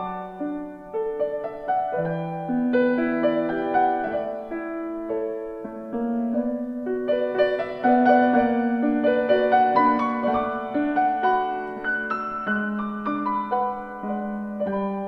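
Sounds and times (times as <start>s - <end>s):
solo piano melody: 0.0s - 15.0s.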